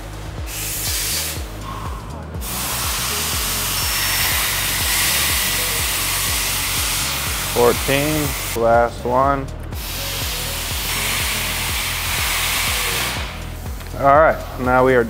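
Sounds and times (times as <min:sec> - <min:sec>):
steady hiss: 0:00.0 - 0:08.9, 0:09.8 - 0:14.9
music with sliding bass line: 0:00.0 - 0:15.0.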